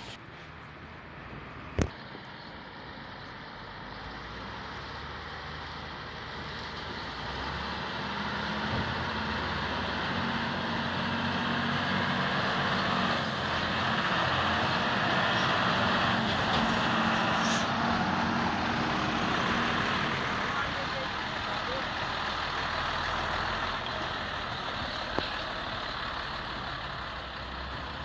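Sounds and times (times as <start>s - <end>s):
diesel truck engines running: 0.0s - 28.0s.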